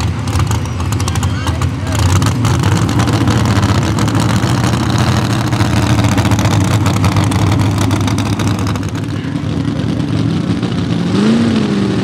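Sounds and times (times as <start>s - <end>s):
tractor engine running loud: 0.0s - 12.0s.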